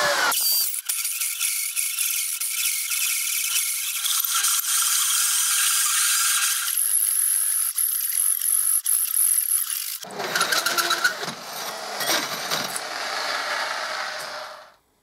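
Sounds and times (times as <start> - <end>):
hole saw cutting steel: 0.0 - 14.7.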